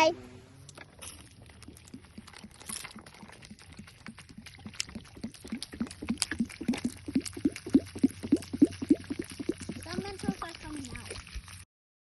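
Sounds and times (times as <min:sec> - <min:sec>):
soda bubbling and gurgling: 0:00.9 - 0:11.7.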